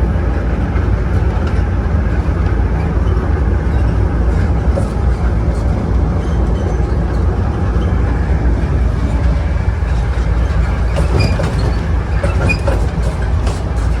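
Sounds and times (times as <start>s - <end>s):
high wheel squeals: 0.0s - 14.0s
loud diesel engine: 0.0s - 14.0s
rail rumble: 0.0s - 14.0s.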